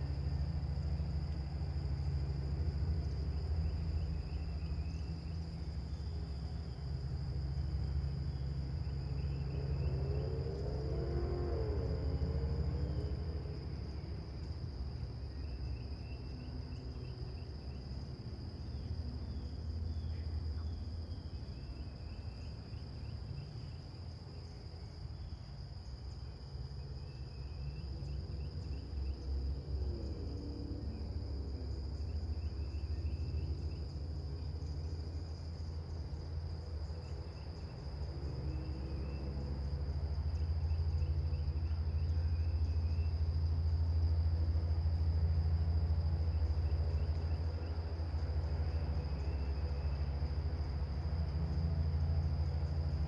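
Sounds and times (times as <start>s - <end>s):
crickets trilling: 0.0s - 53.0s
distant road traffic rumble: 0.0s - 53.0s.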